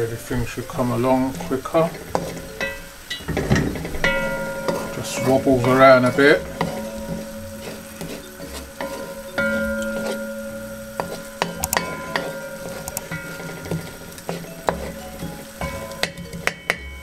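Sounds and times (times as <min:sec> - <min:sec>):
light background music: 0:00.0 - 0:17.0
onions frying: 0:00.0 - 0:17.0
wooden spoon scraping a pot: 0:00.7 - 0:16.8.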